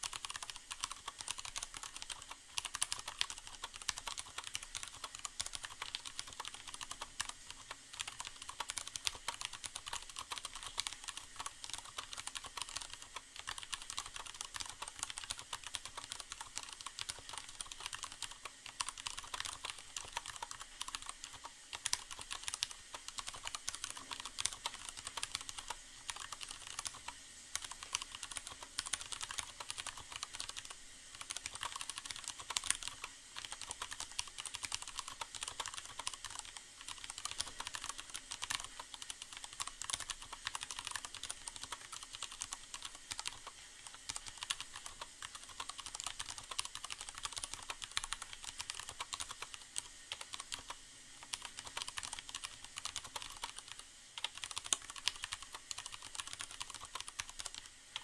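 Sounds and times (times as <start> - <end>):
faint rain hiss: 0.0 - 58.0
fast typing on mechanical keyboard: 0.0 - 58.0.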